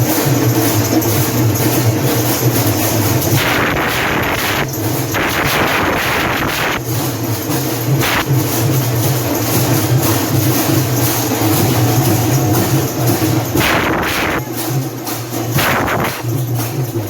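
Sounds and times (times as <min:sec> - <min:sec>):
crowd din: 0:00.0 - 0:17.0.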